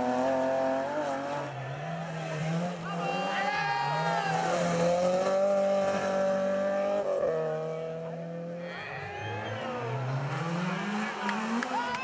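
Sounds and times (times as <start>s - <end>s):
rally car engine at high revs: 0.0s - 8.6s, 9.2s - 12.0s
approaching rally car engine: 0.0s - 12.0s.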